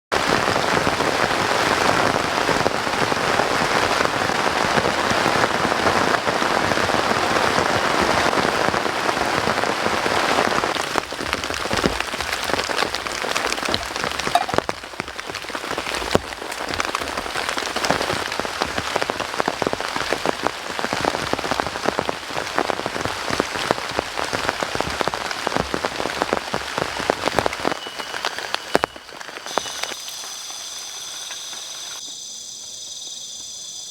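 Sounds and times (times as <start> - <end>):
heavy rain falling: 0.1 - 32.0.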